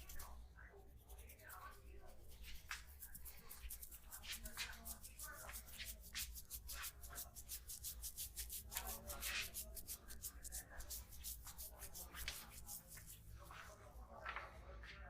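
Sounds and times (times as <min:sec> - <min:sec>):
hands rubbing skin and hair: 0:00.0 - 0:00.4, 0:01.0 - 0:14.4.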